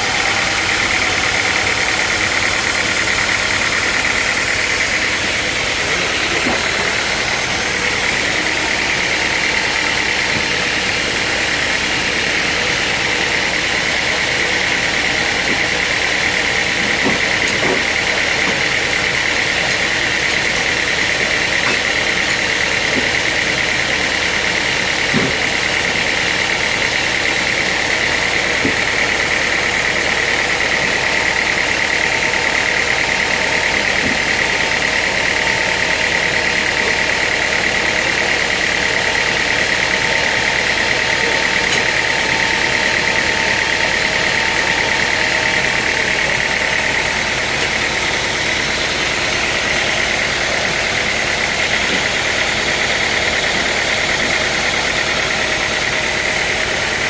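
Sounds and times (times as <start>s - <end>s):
sawmill machinery whining drone: 0.0s - 57.0s.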